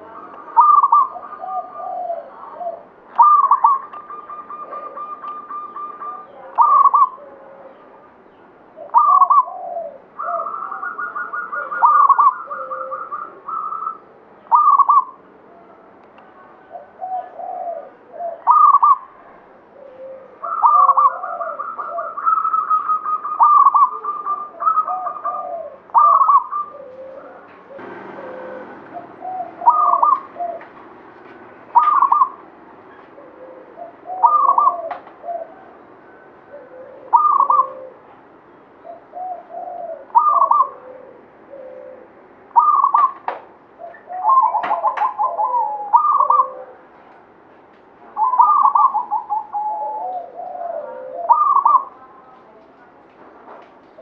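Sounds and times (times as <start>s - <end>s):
dove cooing: 0.0s - 8.2s, 8.8s - 15.8s, 16.4s - 38.2s, 38.8s - 47.2s, 48.0s - 52.6s.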